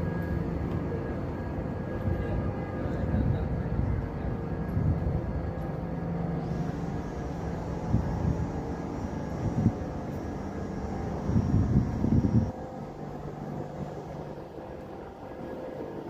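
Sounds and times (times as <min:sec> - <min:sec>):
electric train rumble: 0:00.0 - 0:16.0
train high whine: 0:00.0 - 0:16.0.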